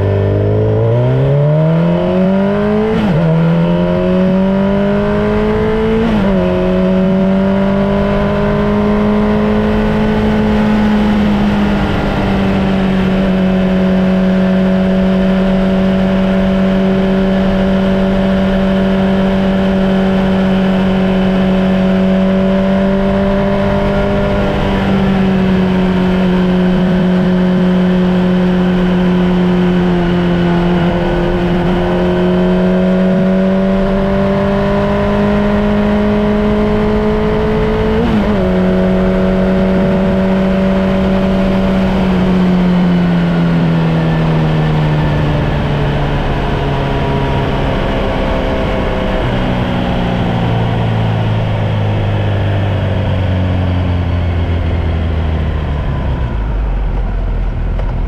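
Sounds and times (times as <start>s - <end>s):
motorcycle engine cruising: 0.0s - 58.0s
road wind: 0.0s - 58.0s.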